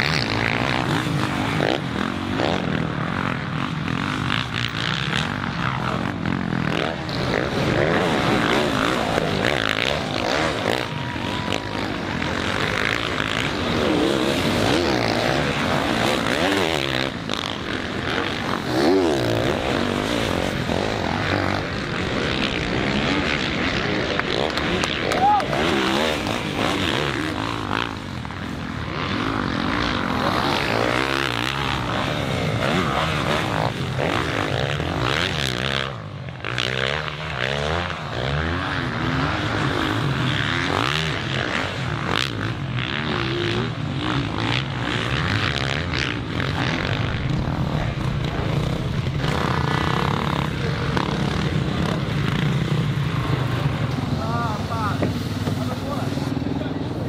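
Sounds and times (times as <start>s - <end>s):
motocross bikes revving: 0.0s - 57.0s.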